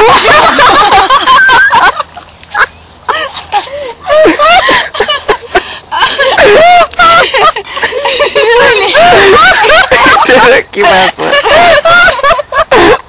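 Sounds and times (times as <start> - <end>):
woman laughing hard: 0.0 - 13.0.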